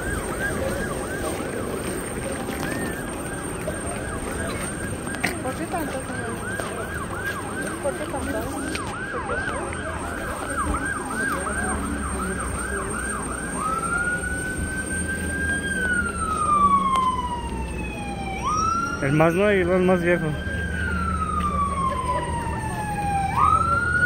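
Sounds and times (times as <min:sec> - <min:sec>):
emergency vehicle siren: 0:00.0 - 0:24.0.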